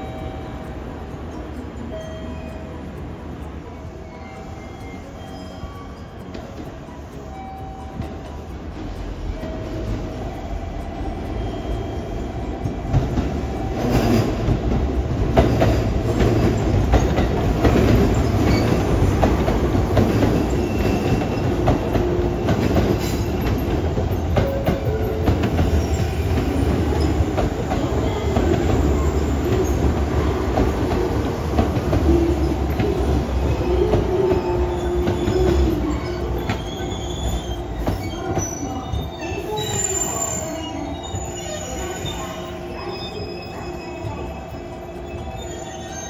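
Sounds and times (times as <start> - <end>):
train rumbling on rails: 0.0 - 46.0.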